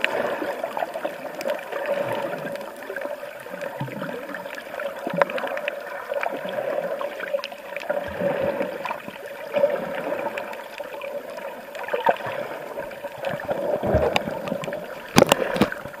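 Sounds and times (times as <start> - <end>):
muffled underwater water rush: 0.0 - 16.0.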